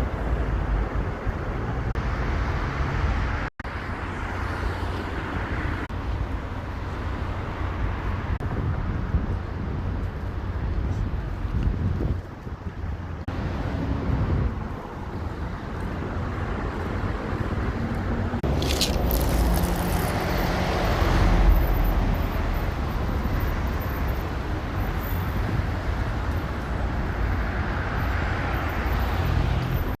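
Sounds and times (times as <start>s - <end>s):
vehicles passing with rumble: 0.0s - 30.0s.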